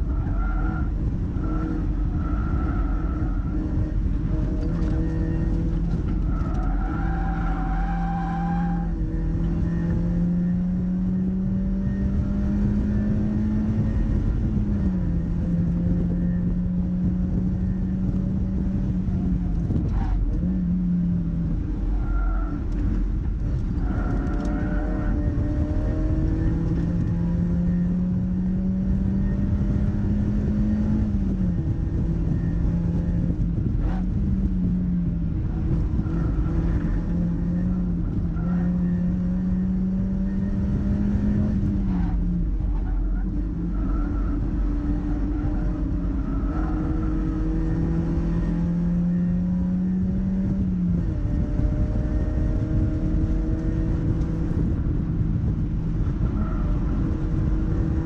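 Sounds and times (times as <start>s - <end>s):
car engine revving: 0.0s - 58.0s
road noise rumble: 0.0s - 58.0s.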